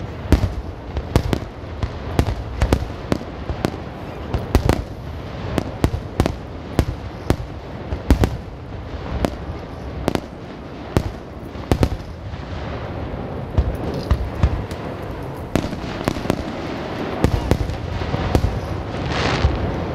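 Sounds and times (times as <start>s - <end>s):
fireworks sharp bangs: 0.0s - 19.9s.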